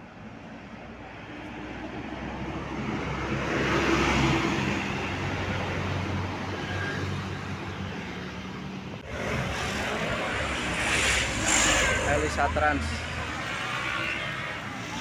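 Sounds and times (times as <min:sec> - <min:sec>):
bus engine passing by: 0:00.0 - 0:15.0.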